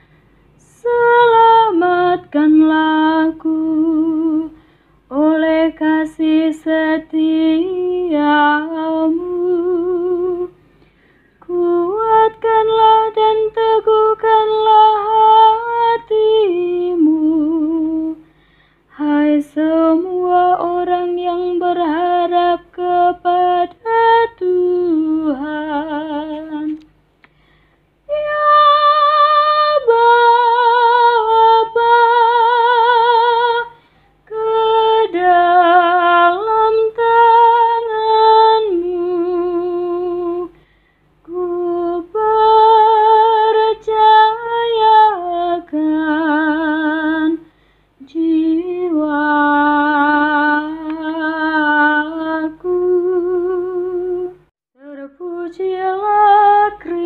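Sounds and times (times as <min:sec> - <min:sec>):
person singing unaccompanied: 0:00.6 - 0:10.6, 0:11.4 - 0:18.2, 0:18.9 - 0:26.9, 0:28.0 - 0:40.6, 0:41.2 - 0:57.0.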